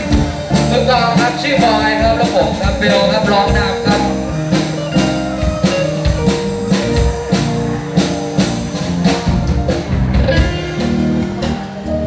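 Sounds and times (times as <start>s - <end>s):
drum kit steady beat: 0.0s - 12.0s
live band playing: 0.0s - 12.0s.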